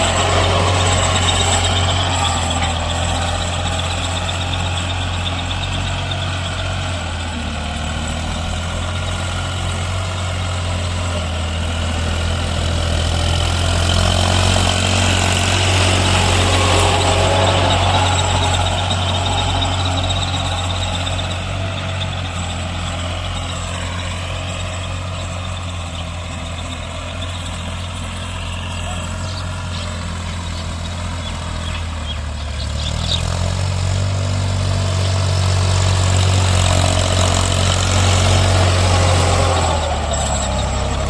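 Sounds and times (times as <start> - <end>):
tractor diesel engine humming: 0.0 - 41.0.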